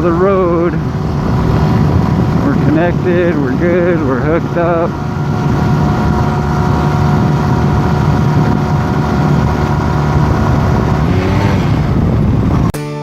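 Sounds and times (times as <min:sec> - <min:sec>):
motorcycle engine running: 0:00.0 - 0:12.7
wind over microphone: 0:00.0 - 0:12.7.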